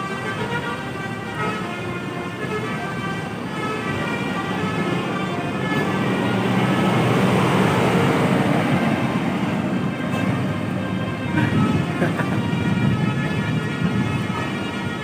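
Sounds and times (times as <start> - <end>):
bus engine noise: 0.0 - 15.0
bus horn playing tones: 0.0 - 15.0.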